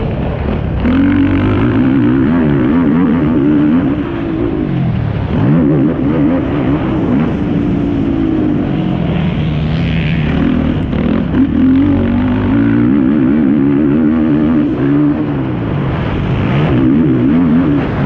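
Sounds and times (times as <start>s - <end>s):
quad engine revving hard: 0.5s - 18.0s.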